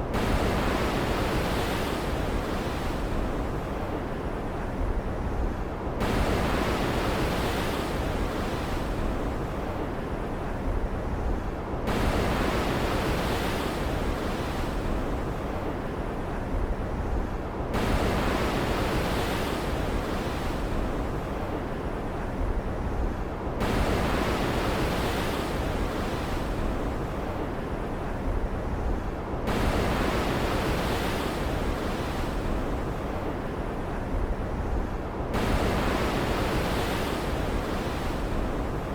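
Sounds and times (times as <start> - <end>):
wind-driven water: 0.0 - 38.9.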